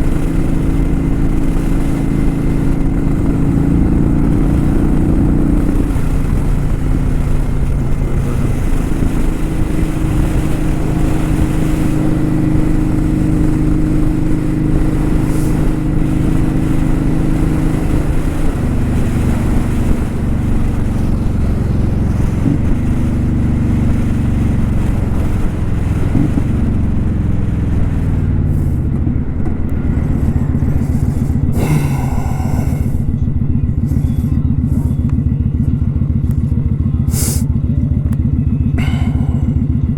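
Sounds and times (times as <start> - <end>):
motorcycle engine shifting gears: 0.0 - 39.9
rush of noise: 0.0 - 39.9.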